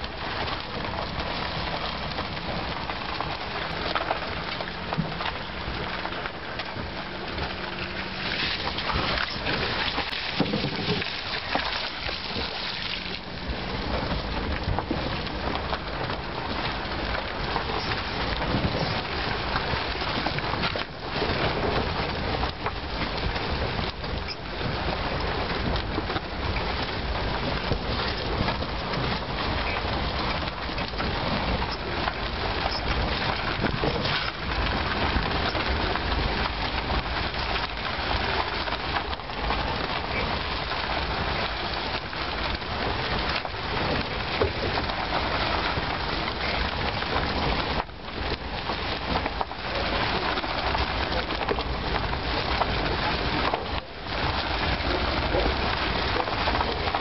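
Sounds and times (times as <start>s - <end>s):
tyres rolling over gravel road: 0.0s - 57.0s.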